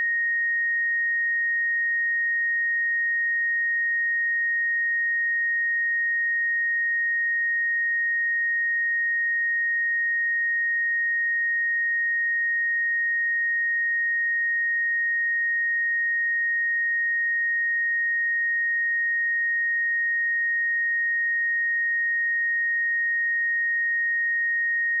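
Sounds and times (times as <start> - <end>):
high-pitched sine test tone: 0.0 - 25.0.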